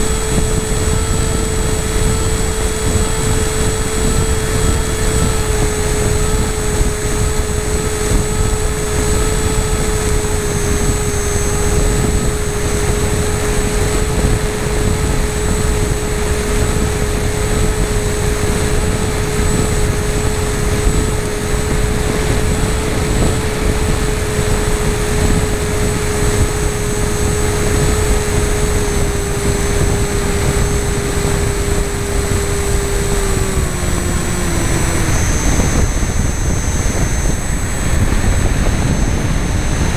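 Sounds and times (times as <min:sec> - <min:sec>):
motor and propeller whine: 0:00.0 - 0:39.9
wind rush on microphone: 0:00.0 - 0:39.9.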